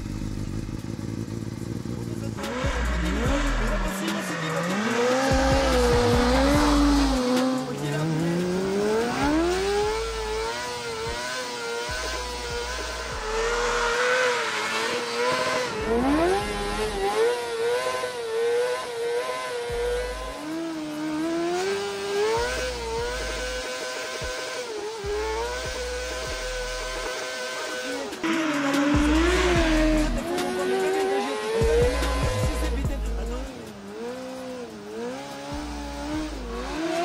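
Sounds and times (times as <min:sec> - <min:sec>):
motorcycle engine revving high: 0:00.0 - 0:37.0.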